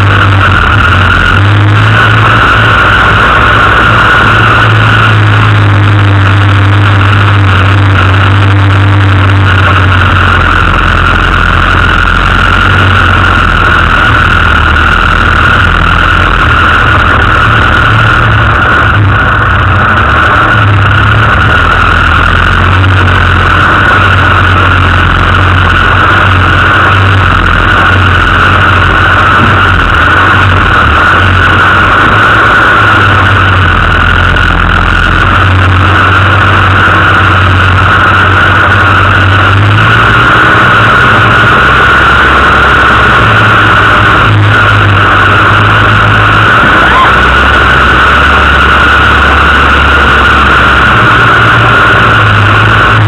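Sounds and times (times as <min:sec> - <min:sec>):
off-road vehicle engine at low revs: 0:00.0 - 0:53.0.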